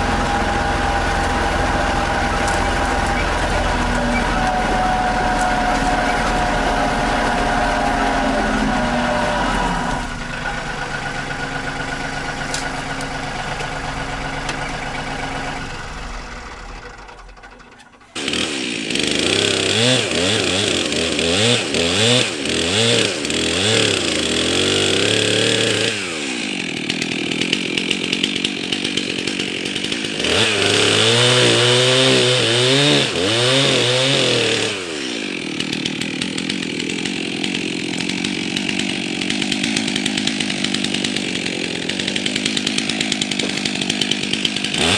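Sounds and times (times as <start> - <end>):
chainsaw revving and cutting wood: 0.0 - 44.9
tractor engine running: 0.0 - 44.9.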